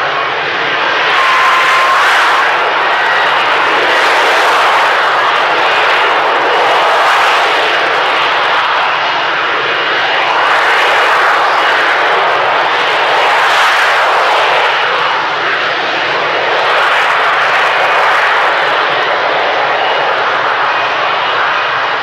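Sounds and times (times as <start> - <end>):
high jet whine: 0.0 - 22.0
jet engine roar: 0.0 - 22.0.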